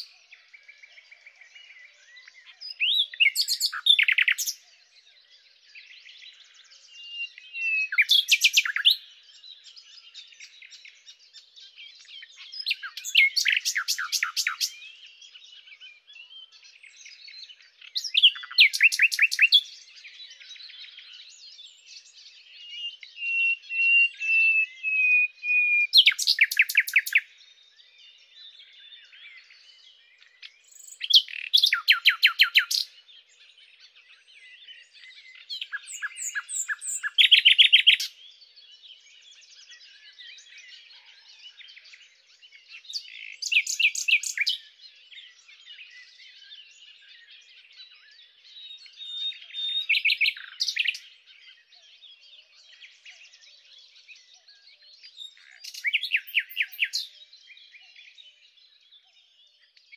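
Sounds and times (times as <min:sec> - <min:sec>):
faint bird twittering: 0:00.0 - 0:59.9
nightingale singing: 0:00.0 - 0:59.9.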